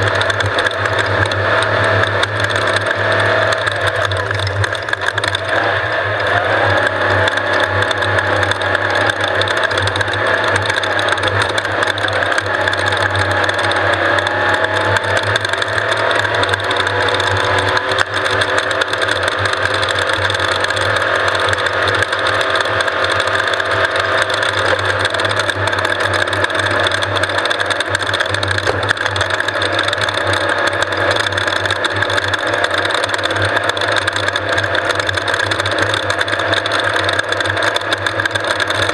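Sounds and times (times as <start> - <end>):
race vehicle engine running: 0.0 - 38.9
rattling and clattering: 0.0 - 38.9.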